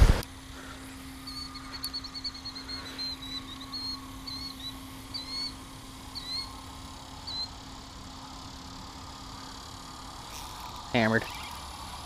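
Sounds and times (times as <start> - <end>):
steady low hum: 0.0 - 12.0
small bird chirping: 1.1 - 11.9.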